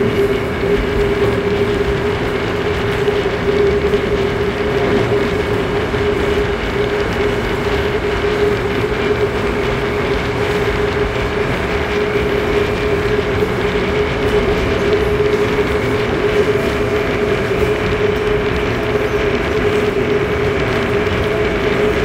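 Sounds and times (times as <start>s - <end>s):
electric train whine: 0.0s - 22.0s
wheels rumbling and clattering on rail: 0.0s - 22.0s.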